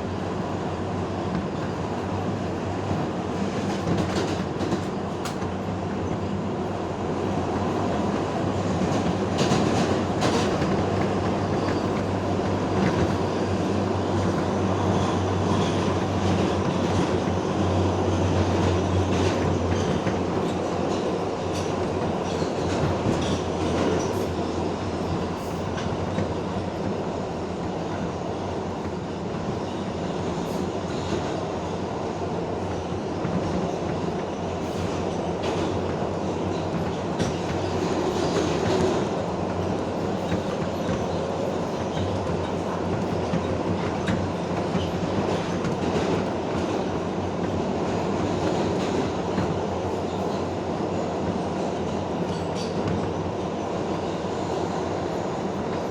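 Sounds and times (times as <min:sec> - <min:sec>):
subway train rumbling: 0:00.0 - 0:55.9.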